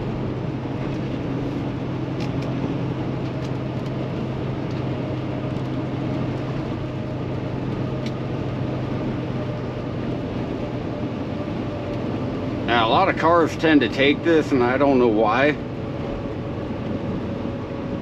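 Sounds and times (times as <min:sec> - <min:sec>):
truck diesel engine droning: 0:00.0 - 0:18.0.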